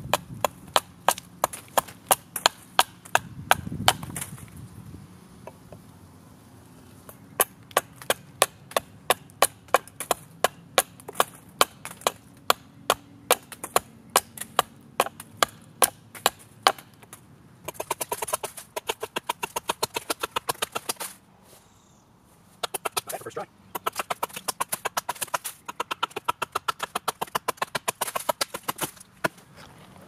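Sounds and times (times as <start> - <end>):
hatchet chopping wooden pole: 0.0 - 4.5, 7.1 - 21.2, 22.6 - 29.4.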